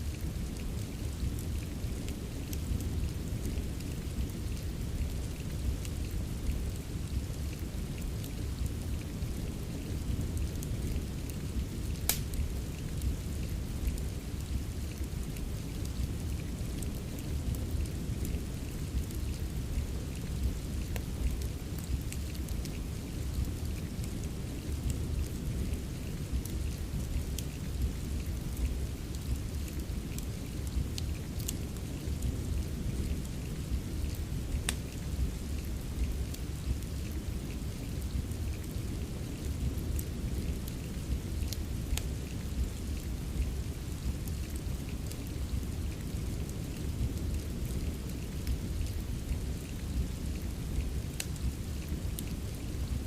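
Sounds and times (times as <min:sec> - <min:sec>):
steady rain: 0:00.0 - 0:53.0
wood fire crackling and popping: 0:00.0 - 0:53.0.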